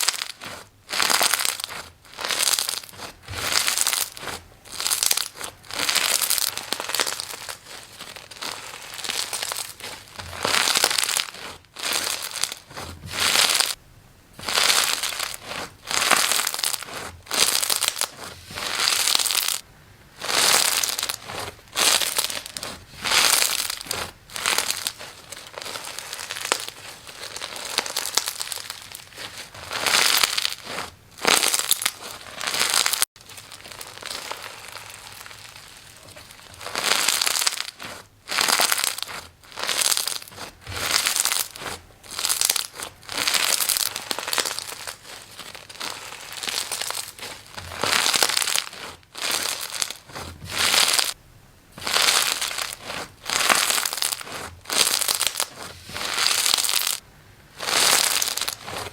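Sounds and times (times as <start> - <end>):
slime crackling by hand: 0.0 - 58.9.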